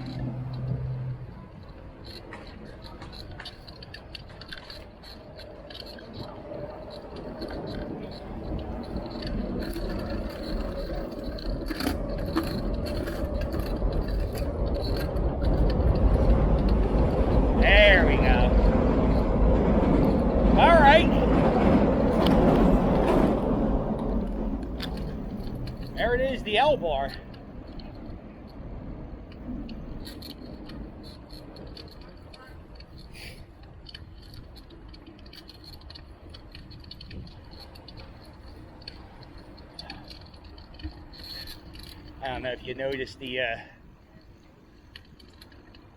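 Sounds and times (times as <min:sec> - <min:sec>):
bicycle clicks and rattles: 0:00.0 - 0:45.9
road rumble: 0:00.0 - 0:45.9
wind: 0:00.0 - 0:45.9.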